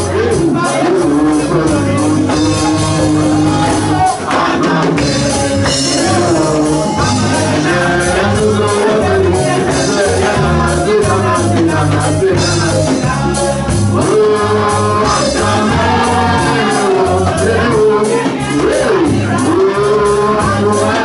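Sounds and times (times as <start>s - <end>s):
backing voices: 0.0s - 21.0s
drums: 0.0s - 21.0s
keyboard: 0.0s - 21.0s
steady bass line: 0.0s - 21.0s.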